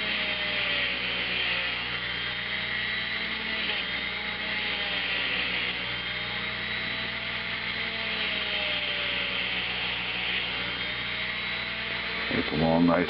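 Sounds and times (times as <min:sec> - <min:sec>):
rotary tool motor whine: 0:00.0 - 0:13.0.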